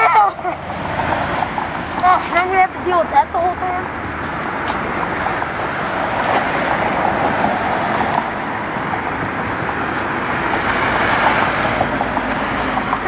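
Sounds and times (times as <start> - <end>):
road traffic hiss and rumble: 0.0 - 13.0.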